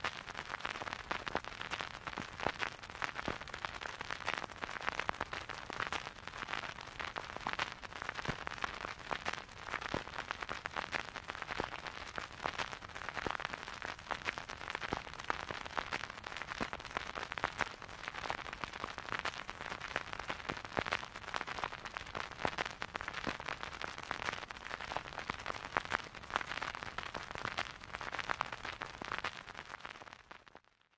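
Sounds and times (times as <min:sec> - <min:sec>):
vinyl record crackling: 0:00.0 - 0:30.9.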